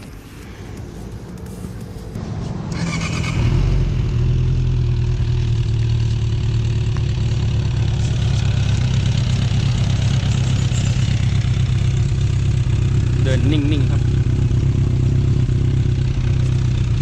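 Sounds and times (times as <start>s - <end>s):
motorcycle engine starting and idling: 0.1s - 17.0s.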